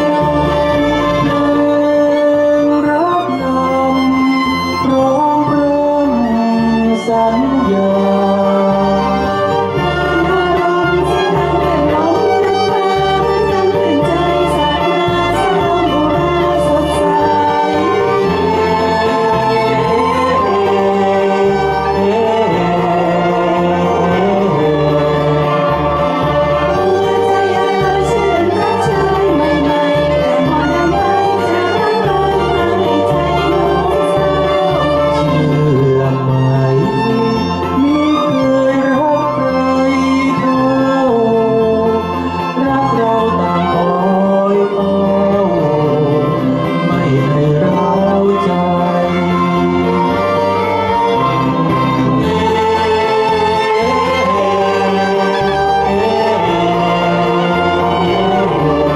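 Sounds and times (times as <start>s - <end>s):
bass line: 0.0s - 58.9s
man and woman singing duet: 0.0s - 58.9s
violin playing: 0.0s - 58.9s.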